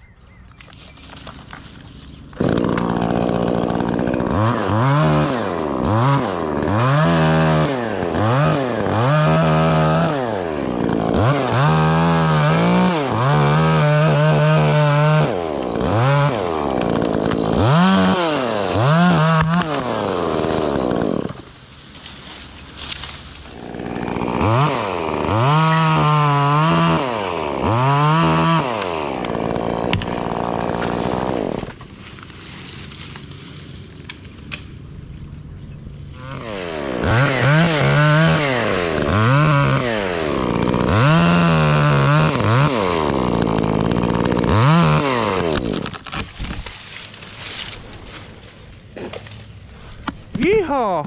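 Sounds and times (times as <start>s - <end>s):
chainsaw revving: 1.1s - 21.6s, 22.8s - 33.9s, 36.0s - 46.6s.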